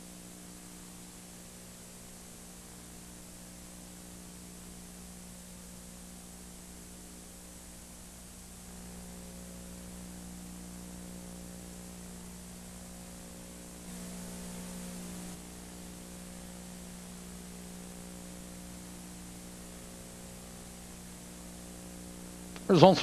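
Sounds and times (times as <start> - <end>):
low electrical hum: 0.0 - 23.0
steady hiss: 0.0 - 23.0.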